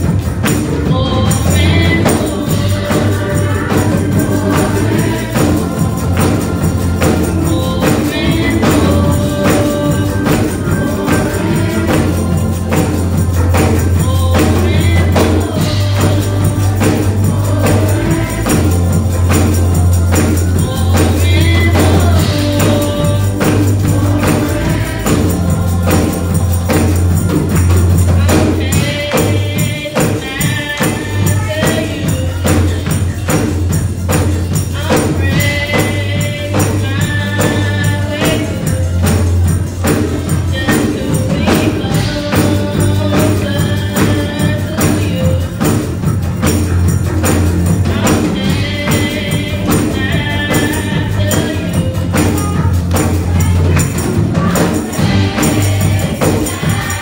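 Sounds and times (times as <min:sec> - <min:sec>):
bass accompaniment: 0:00.0 - 0:57.0
fast percussion beat: 0:00.0 - 0:57.0
gospel choir singing: 0:00.0 - 0:57.0.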